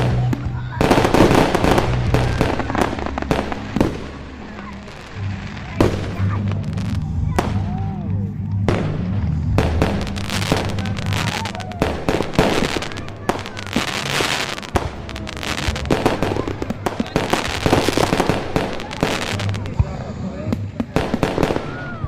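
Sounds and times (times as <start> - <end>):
background music with bass: 0.0 - 22.0
fireworks bangs: 0.0 - 22.0
fireworks crackling and popping: 0.0 - 22.0.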